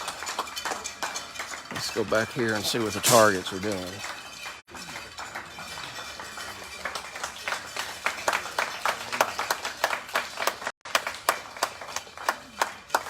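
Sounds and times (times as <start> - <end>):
people clapping unevenly: 0.0 - 13.0.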